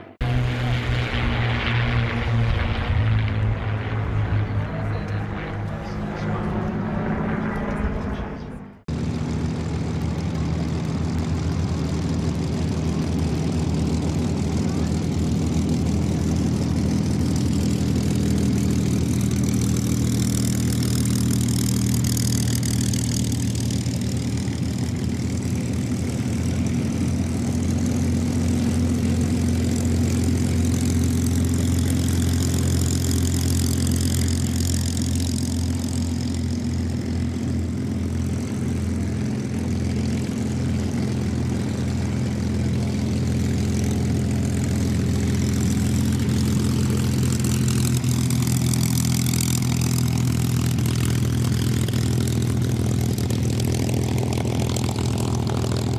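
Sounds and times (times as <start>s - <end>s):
propeller engines rumbling: 0.0s - 55.9s.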